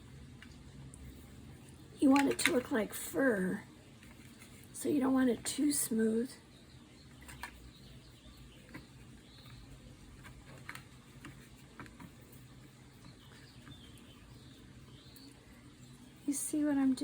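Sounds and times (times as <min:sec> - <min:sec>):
hands and brush working wet clay: 0:00.0 - 0:06.2, 0:07.0 - 0:17.0
low steady hum: 0:00.0 - 0:17.0.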